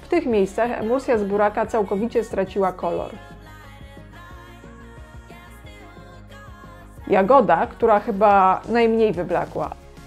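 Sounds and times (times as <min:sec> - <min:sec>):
quiet background music: 0:00.0 - 0:10.0.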